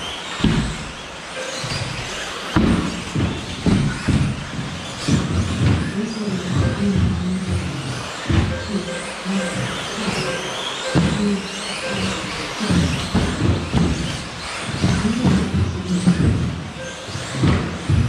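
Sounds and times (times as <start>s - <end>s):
rc car electric motors surging: 0.0s - 18.0s.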